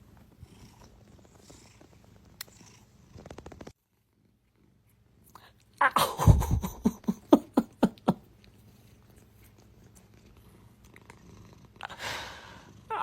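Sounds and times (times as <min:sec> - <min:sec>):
cat purring: 0:00.0 - 0:05.3, 0:06.2 - 0:13.0.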